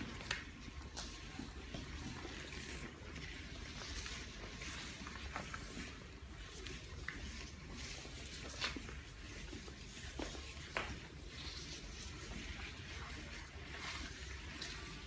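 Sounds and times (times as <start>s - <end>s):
footsteps: 0.0s - 15.0s.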